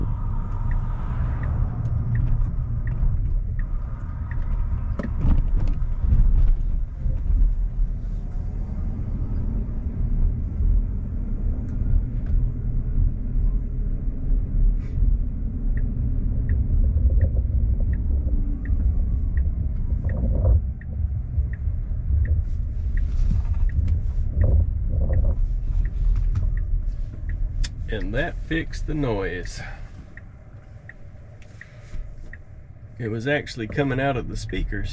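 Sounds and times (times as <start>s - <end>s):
low rumbling drone: 0.0s - 34.9s.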